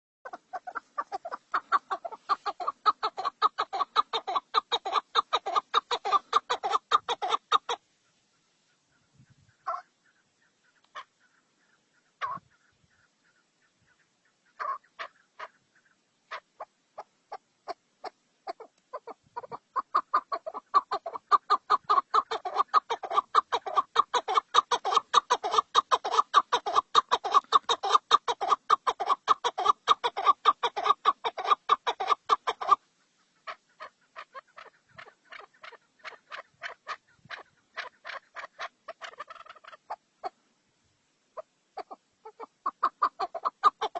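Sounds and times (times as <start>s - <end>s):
birds calling: 0.2s - 40.4s.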